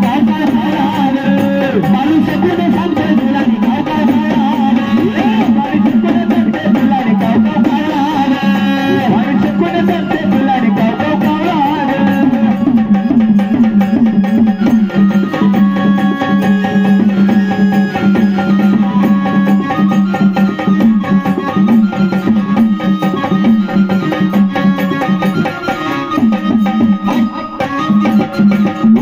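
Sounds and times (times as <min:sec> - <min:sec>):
hand drum strokes: 0:00.0 - 0:29.0
held melody line: 0:00.0 - 0:29.0.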